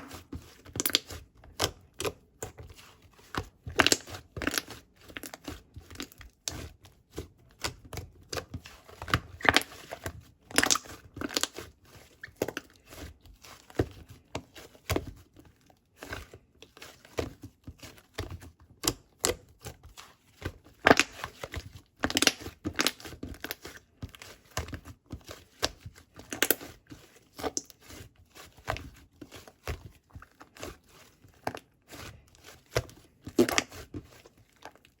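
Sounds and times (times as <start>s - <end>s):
crinkling and crackling handling: 0.0s - 35.0s.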